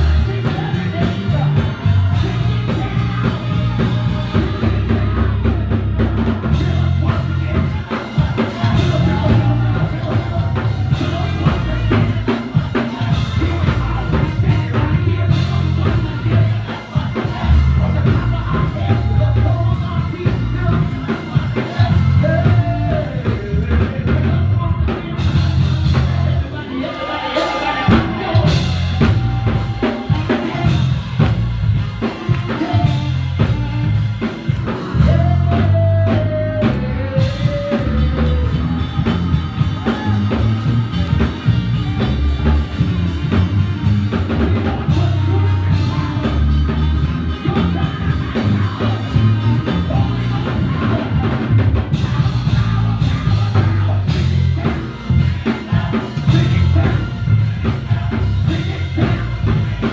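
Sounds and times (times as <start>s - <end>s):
drum kit rock beat: 0.0s - 59.9s
heavy bass: 0.0s - 59.9s
person singing: 0.0s - 59.9s.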